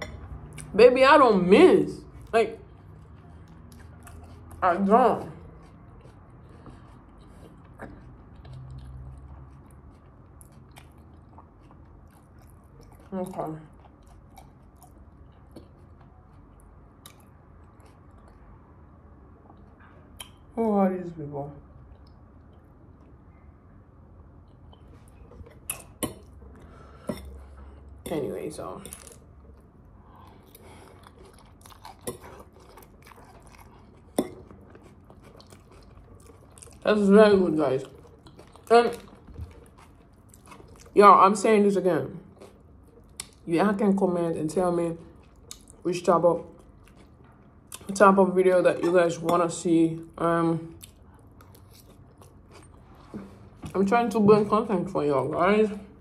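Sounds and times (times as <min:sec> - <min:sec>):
chewing food: 0:02.0 - 0:20.5, 0:24.2 - 0:41.6, 0:42.2 - 0:43.5, 0:44.5 - 0:53.6.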